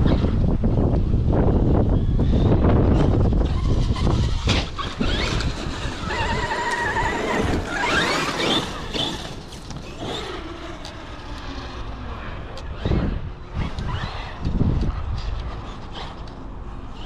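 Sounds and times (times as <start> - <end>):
electric motor whining: 0.0 - 17.0
wind buffeting microphone: 0.0 - 17.0.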